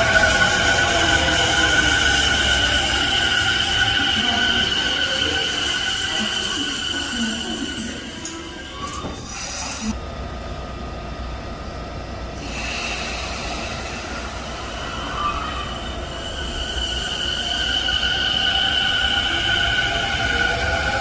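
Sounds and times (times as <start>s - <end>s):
train wheel squeal: 0.0s - 9.9s, 12.5s - 21.0s
train low rumble: 0.0s - 21.0s.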